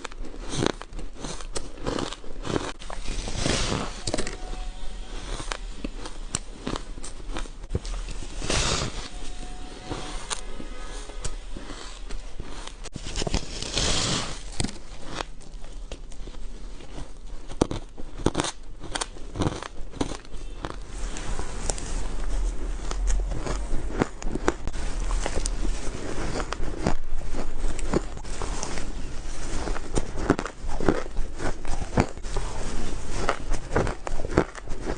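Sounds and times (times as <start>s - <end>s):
ice crunching between teeth: 0.0s - 4.4s, 9.9s - 21.8s, 22.6s - 34.9s.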